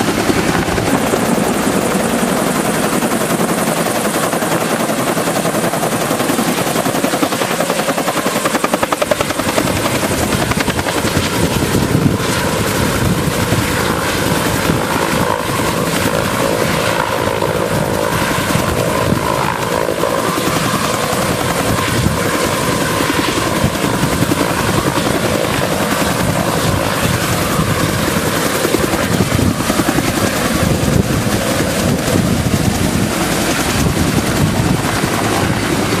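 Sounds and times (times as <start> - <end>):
helicopter rotor chop: 0.0 - 36.0.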